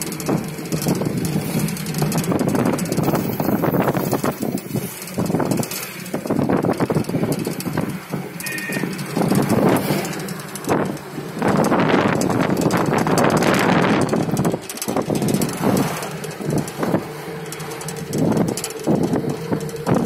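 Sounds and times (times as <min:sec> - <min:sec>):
car engine hum: 0:00.0 - 0:20.0
road and wind rumble: 0:00.0 - 0:20.0.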